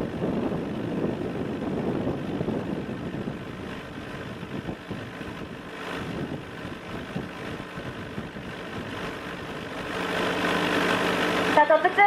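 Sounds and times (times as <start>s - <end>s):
wind on microphone: 0.0s - 9.7s.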